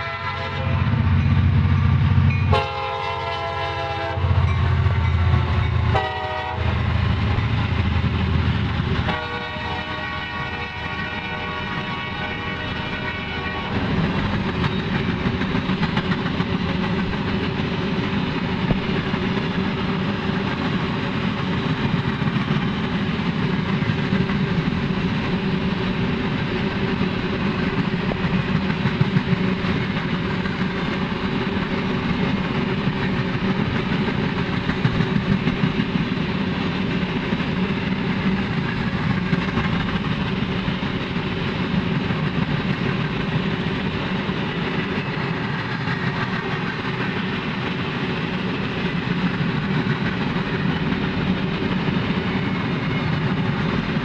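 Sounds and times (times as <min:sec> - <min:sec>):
train cars clanking: 0:00.0 - 0:54.0
train wheels rumbling on rails: 0:00.0 - 0:54.0.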